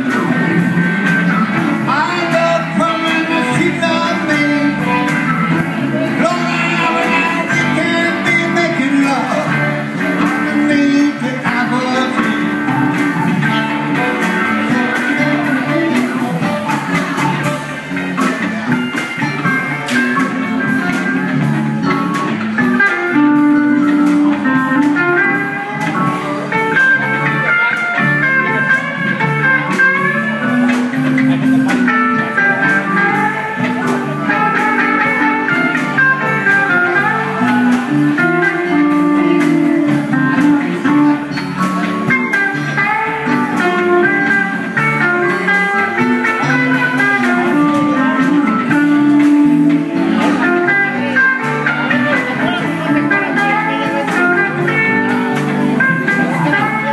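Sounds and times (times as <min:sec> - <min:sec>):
live blues band: 0:00.0 - 0:56.9.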